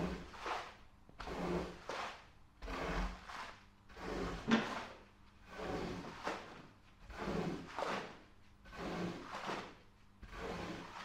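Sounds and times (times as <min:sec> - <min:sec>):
scrub brush swishing on wet rug: 0:00.0 - 0:11.0.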